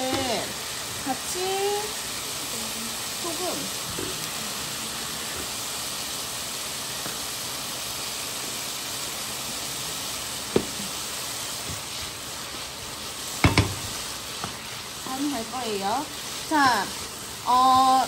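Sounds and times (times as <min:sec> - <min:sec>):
potato strips sizzling in oil: 0:00.0 - 0:18.0.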